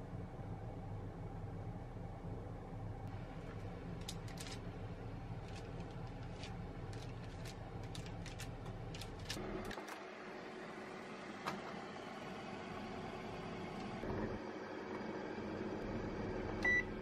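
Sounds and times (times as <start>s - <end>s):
oven cooling fan humming: 0.0s - 17.0s.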